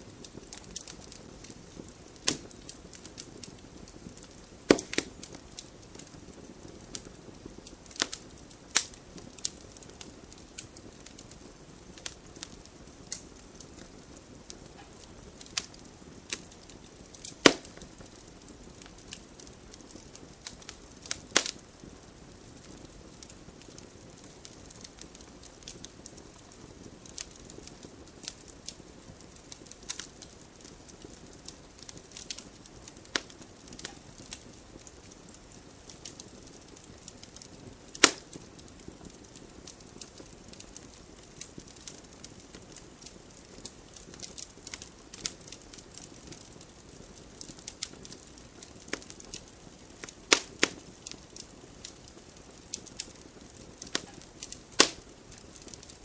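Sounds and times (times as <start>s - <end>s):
fire crackles and sharp pops: 0.0s - 56.0s
wood fire hissing: 0.0s - 56.0s.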